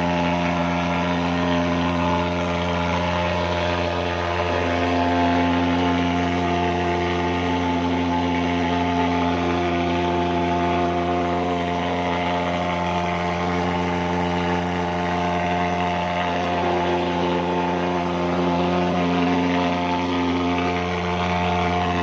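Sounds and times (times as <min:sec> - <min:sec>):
fogging machine buzzing drone: 0:00.0 - 0:22.0.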